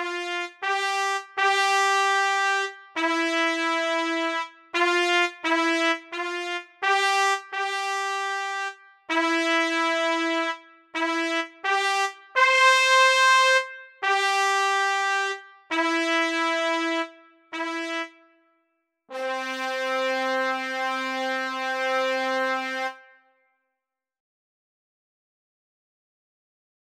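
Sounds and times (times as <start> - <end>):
solo trumpet melody: 0.0 - 18.3, 19.1 - 23.3.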